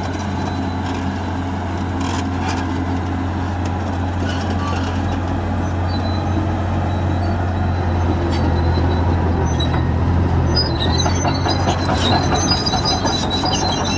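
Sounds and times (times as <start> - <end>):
bulldozer diesel engine: 0.0 - 13.9
crawler tracks squealing and clanking: 0.0 - 13.9.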